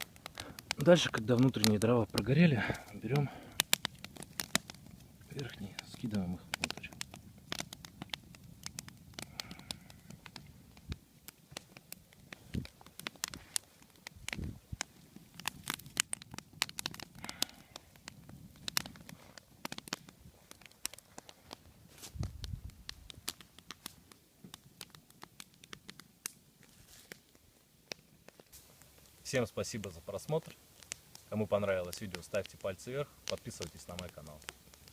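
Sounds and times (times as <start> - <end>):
campfire logs crackling: 0.0 - 34.9
sharp fire snaps: 0.0 - 34.9.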